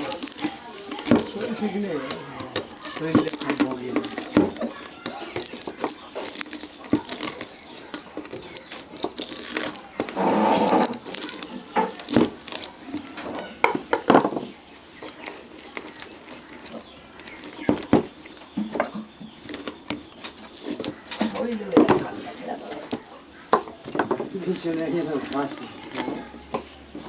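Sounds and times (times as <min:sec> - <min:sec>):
wire crinkling and scraping: 0:00.0 - 0:27.0.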